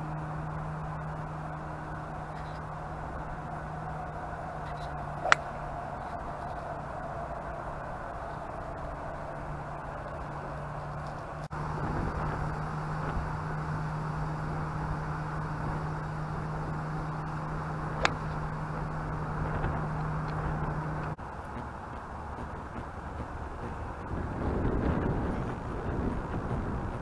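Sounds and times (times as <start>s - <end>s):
constant low hum: 0.0s - 27.0s
wind noise on microphone: 0.0s - 27.0s.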